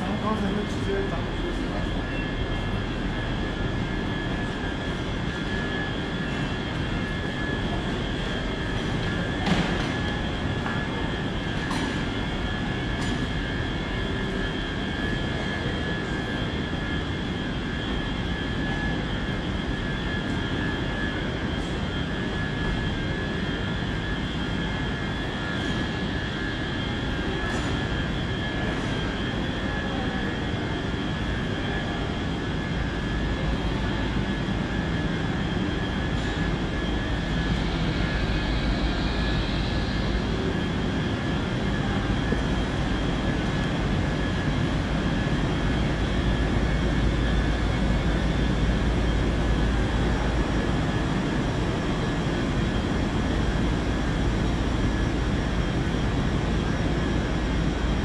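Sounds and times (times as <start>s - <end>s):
electric train humming and whining: 0.0s - 58.0s
train shed drone: 0.0s - 58.0s.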